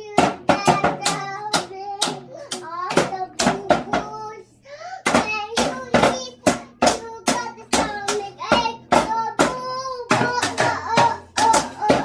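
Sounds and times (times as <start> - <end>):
toy drum beats: 0.0 - 4.2, 5.0 - 12.0
child singing: 0.0 - 12.0.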